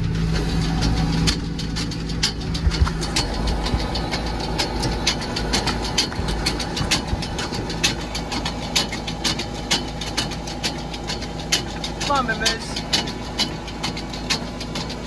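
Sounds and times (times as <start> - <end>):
rattling clicks: 0.0 - 15.0
tractor engine running: 0.0 - 15.0.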